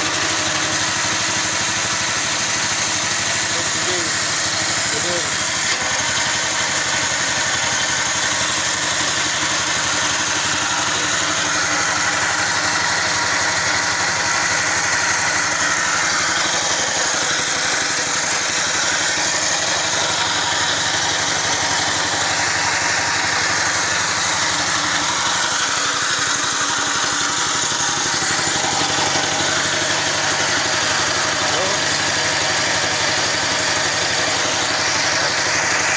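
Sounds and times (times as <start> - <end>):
small winch engine running: 0.0 - 35.9.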